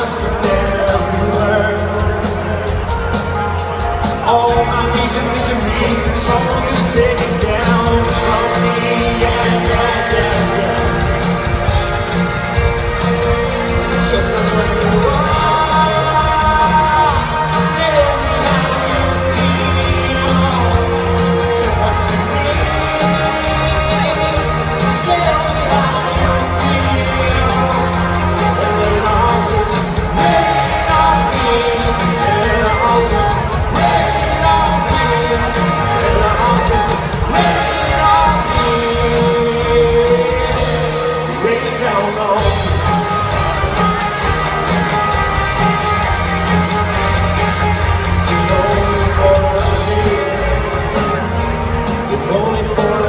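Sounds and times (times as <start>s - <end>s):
live pop-rock band: 0.0s - 53.0s
person singing long notes: 4.2s - 53.0s.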